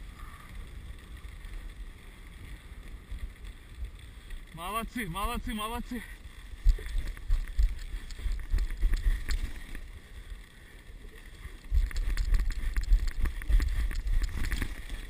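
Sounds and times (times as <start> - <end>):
sled runners sliding over snow: 0.0 - 15.0
wind rumbling on microphone: 0.0 - 15.0.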